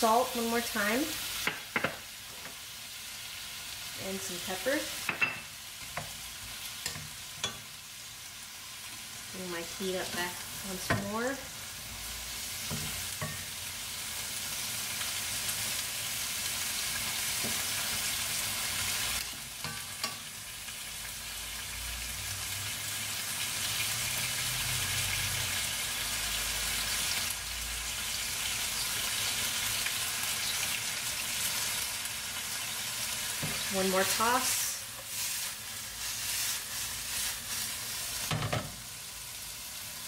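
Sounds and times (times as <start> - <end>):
vegetables sizzling in a skillet: 0.0 - 40.0.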